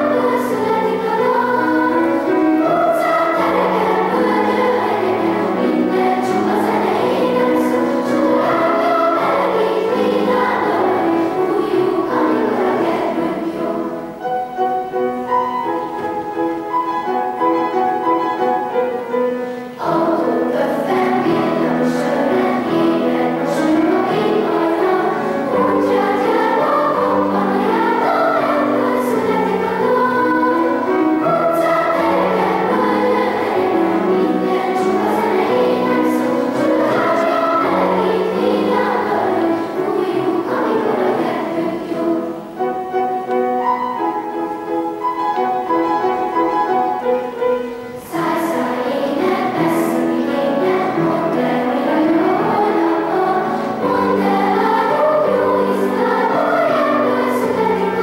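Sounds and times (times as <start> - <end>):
children's choir singing: 0.0 - 58.0
grand piano accompaniment: 0.0 - 58.0.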